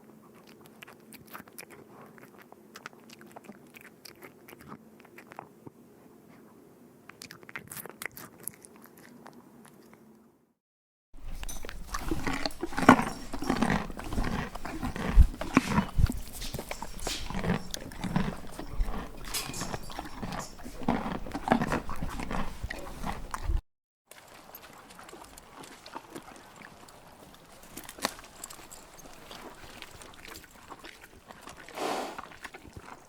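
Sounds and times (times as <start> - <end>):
animal eating noisily: 0.0 - 10.1, 11.2 - 33.0
faint crunchy chewing: 0.0 - 10.3, 11.2 - 33.0.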